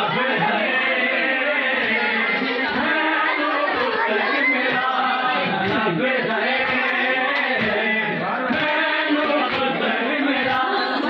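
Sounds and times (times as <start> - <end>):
many voices chanting: 0.0 - 11.0.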